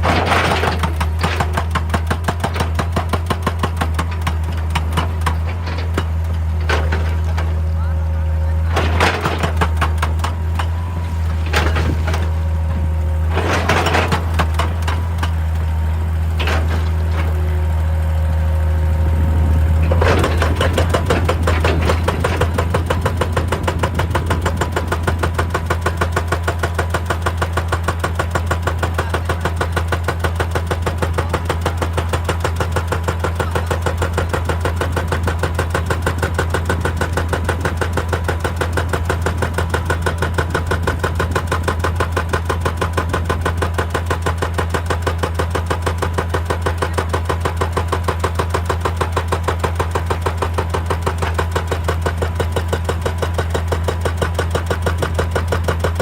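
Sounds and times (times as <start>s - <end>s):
engine knocks: 0.0s - 7.9s, 8.5s - 56.0s
hydraulic breaker hammering rock: 0.0s - 18.2s, 18.9s - 56.0s
diesel engine running: 0.0s - 56.0s.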